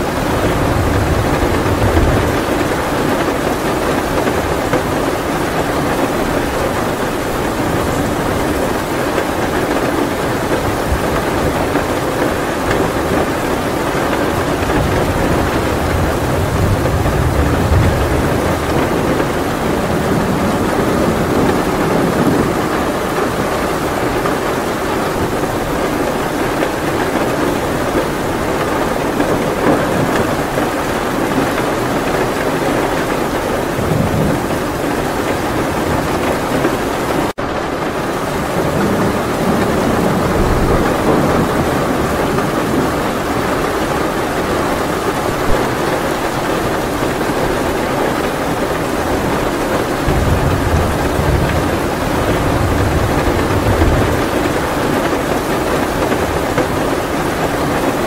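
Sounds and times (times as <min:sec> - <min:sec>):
heavy rain: 0:00.0 - 0:58.0
thunder rolling: 0:00.0 - 0:58.0.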